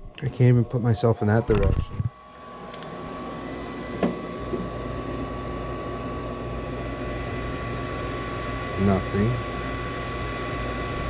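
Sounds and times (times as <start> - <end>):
draft inducer motor whirring: 0.0 - 11.0.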